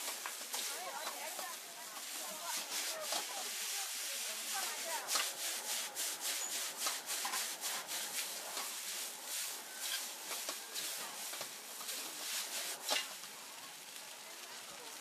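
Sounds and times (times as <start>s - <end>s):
metal spatula scraping a wok: 0.0s - 13.2s
frying hiss: 0.0s - 15.0s.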